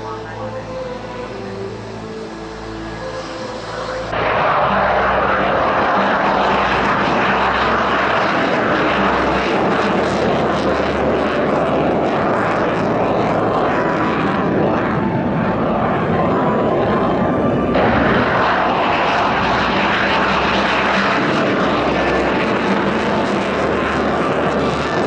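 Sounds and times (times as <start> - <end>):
faint steady whine: 0.0 - 25.0
military aircraft engines running: 0.0 - 25.0.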